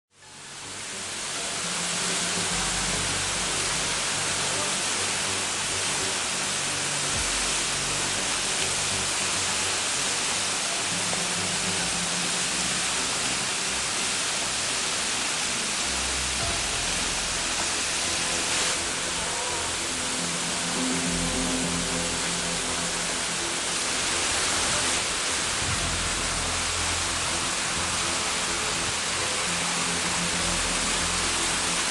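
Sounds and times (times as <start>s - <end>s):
soft background music: 0.2s - 31.9s
waterfall rushing: 0.2s - 31.9s.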